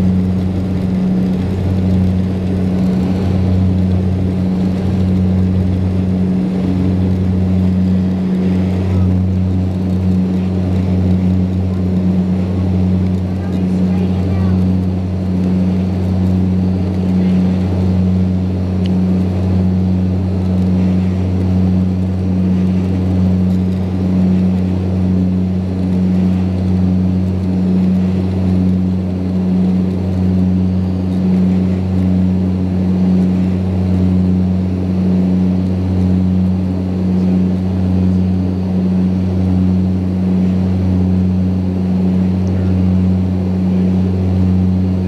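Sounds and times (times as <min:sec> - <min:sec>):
turboprop drone inside cabin: 0:00.0 - 0:45.0.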